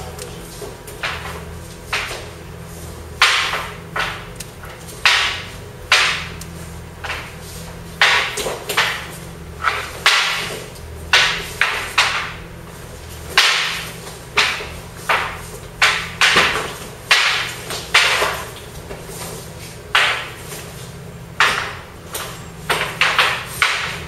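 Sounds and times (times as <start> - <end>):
wooden staffs clacking: 0.0 - 24.0.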